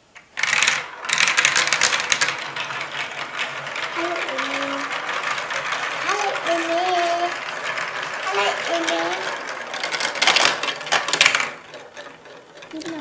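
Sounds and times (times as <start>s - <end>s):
plastic marbles clattering down track: 0.1s - 13.0s.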